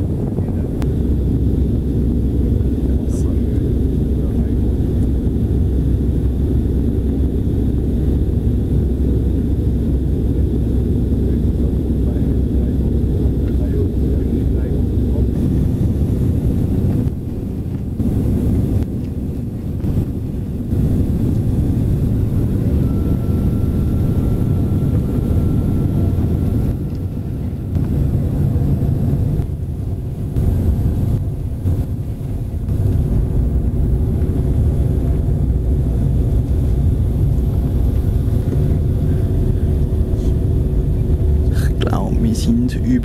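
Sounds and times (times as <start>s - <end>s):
faint steady whine: 0.0s - 43.0s
jet engine rumble in cabin: 0.0s - 43.0s.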